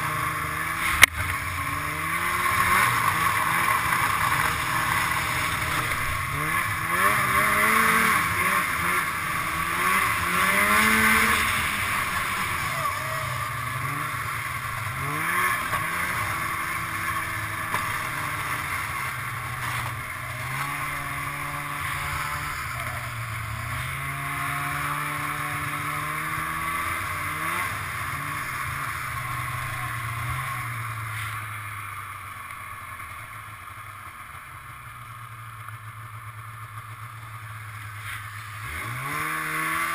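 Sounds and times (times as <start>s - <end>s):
snowmobile engine revving: 0.0s - 31.8s, 36.6s - 39.9s
wind and track noise: 0.0s - 33.1s.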